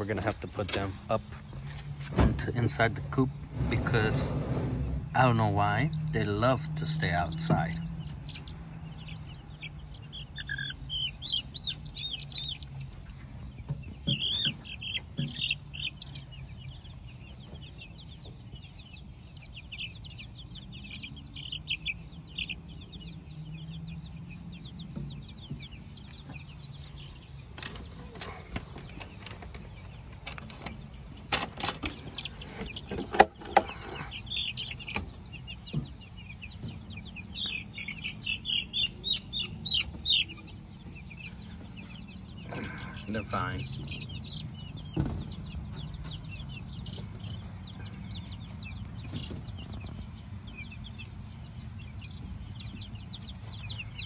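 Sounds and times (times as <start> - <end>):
chicks peeping: 0.0 - 54.0
crickets chirring: 0.0 - 54.0.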